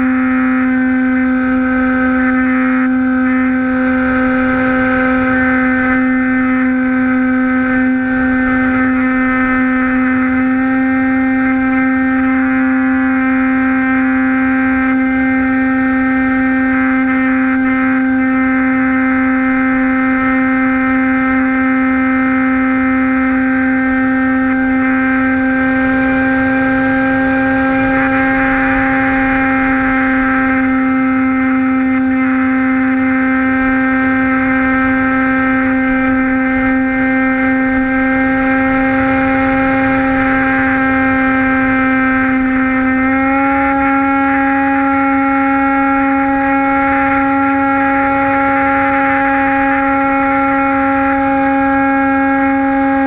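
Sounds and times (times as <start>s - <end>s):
rushing wind: 0.0s - 20.9s, 22.7s - 53.0s
model airplane motor humming: 0.0s - 53.0s.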